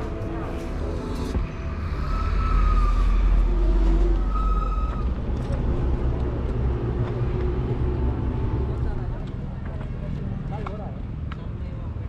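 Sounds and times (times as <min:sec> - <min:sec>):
deep vehicle engine rumble: 0:00.0 - 0:12.0.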